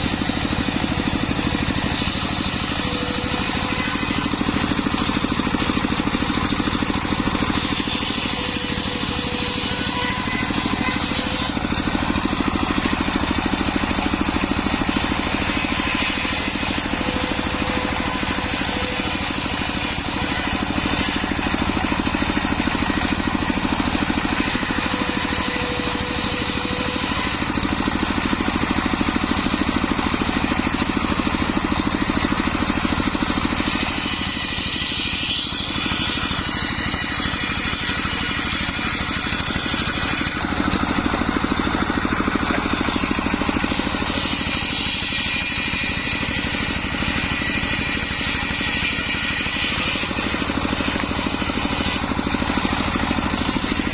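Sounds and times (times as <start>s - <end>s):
circular saw ripping wood: 0.0s - 53.9s.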